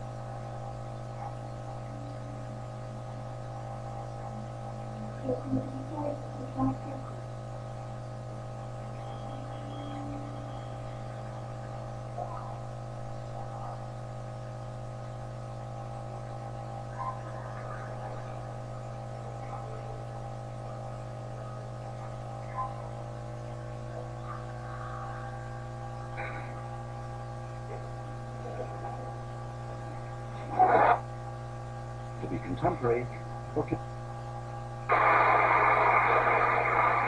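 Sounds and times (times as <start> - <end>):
droning held tones: 0.0 - 37.0
low mains hum: 0.0 - 37.0.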